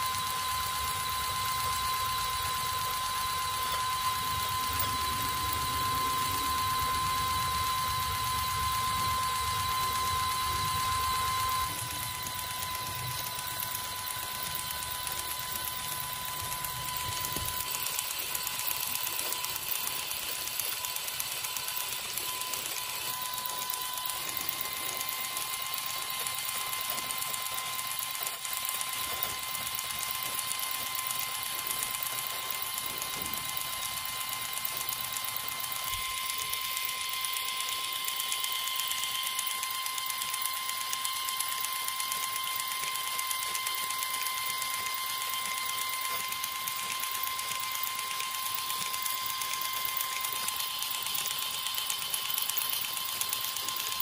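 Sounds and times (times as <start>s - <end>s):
small motor whining: 0.0s - 54.0s.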